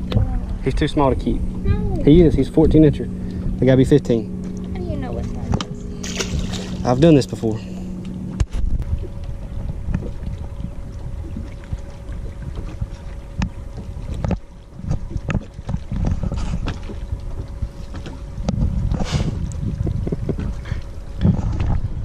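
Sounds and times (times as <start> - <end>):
faint steady hum: 0.0 - 22.0
water lapping against hull: 0.0 - 22.0
wind buffeting microphone: 0.0 - 22.0.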